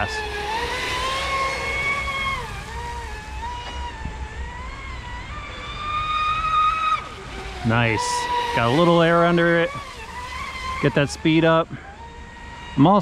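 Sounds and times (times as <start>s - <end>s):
high motor whine: 0.0s - 13.0s.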